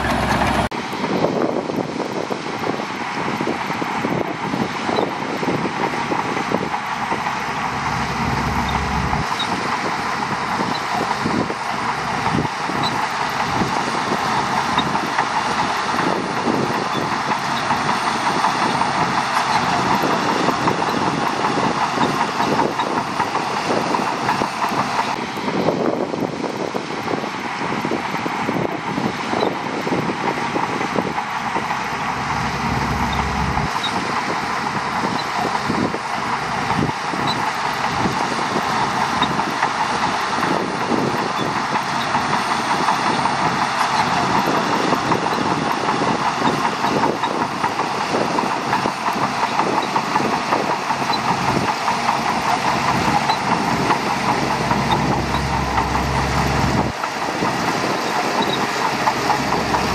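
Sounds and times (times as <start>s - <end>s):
bulldozer diesel engine running: 0.0s - 59.9s
steel tracks clattering: 0.0s - 59.9s.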